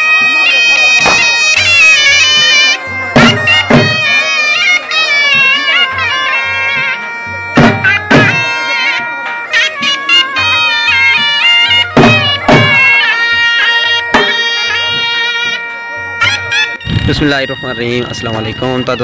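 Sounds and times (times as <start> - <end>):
heavy drum beats: 0.0 - 17.4
reed pipe drone and melody: 0.0 - 19.0.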